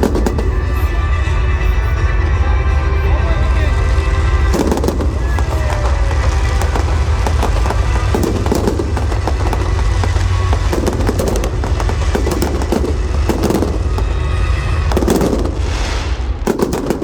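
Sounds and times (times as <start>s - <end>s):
deep rumbling booms: 0.0s - 17.0s
fireworks bangs and crackles: 0.0s - 17.0s.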